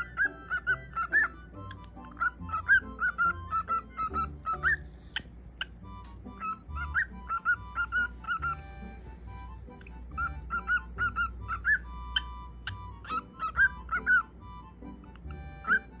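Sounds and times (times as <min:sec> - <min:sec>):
cockatiel whistling: 0:00.0 - 0:16.0
music with held notes: 0:00.0 - 0:16.0.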